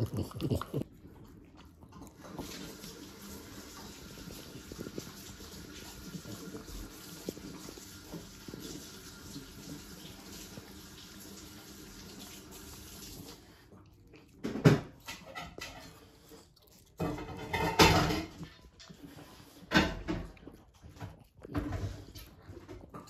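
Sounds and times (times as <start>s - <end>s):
dog chewing and smacking: 0.0s - 23.0s.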